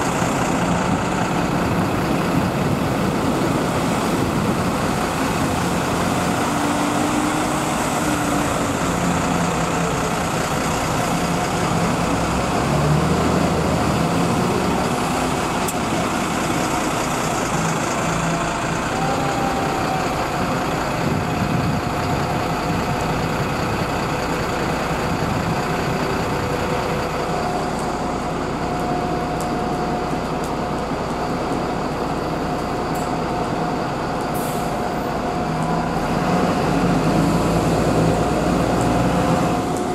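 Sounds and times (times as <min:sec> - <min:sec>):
bus engine running: 0:00.0 - 0:39.9
traffic noise: 0:00.0 - 0:39.9.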